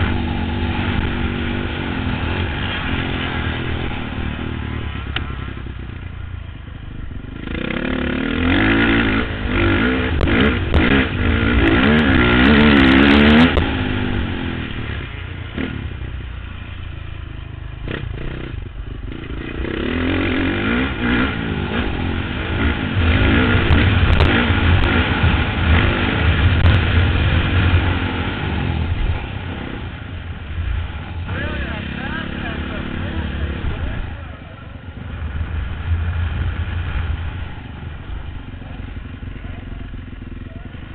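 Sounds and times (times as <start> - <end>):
motocross bike engine revving: 0.0 - 6.2, 7.2 - 40.9.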